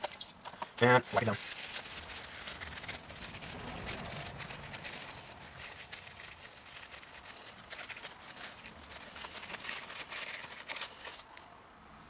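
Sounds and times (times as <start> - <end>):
paper towel rustling and rubbing: 1.0 - 11.3.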